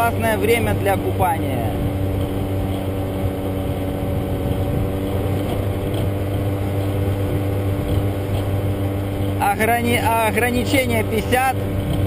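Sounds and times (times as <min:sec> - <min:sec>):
road noise: 0:00.0 - 0:12.0
scooter engine running: 0:00.0 - 0:12.0.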